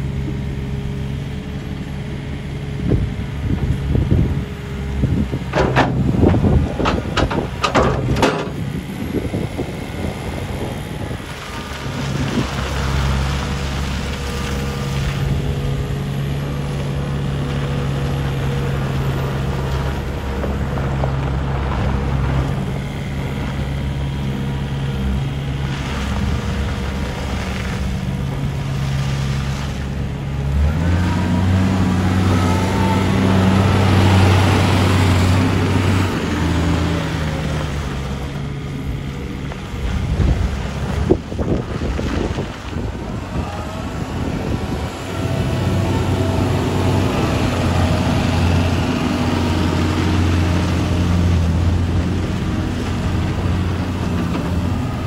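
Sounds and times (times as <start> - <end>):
loader diesel engine running: 0.0 - 55.0.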